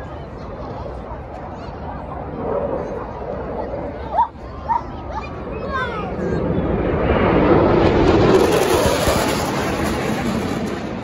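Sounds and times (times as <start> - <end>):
fighter jet passing low: 0.8 - 11.0.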